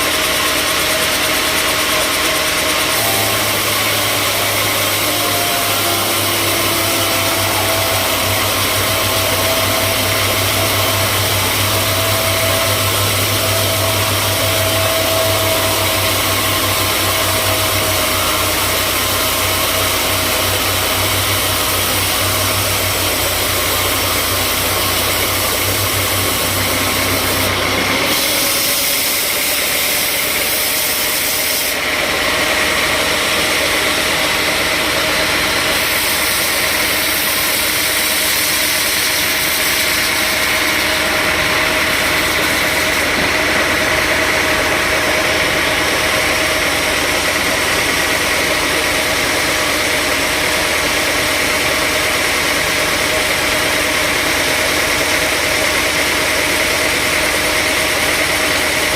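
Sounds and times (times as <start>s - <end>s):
sawmill saw running: 0.0s - 58.9s.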